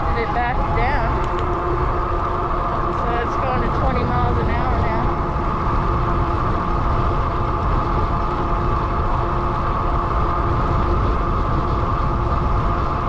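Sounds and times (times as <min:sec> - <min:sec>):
steady buzz and whine: 0:00.0 - 0:13.0
wind on microphone: 0:00.0 - 0:13.0.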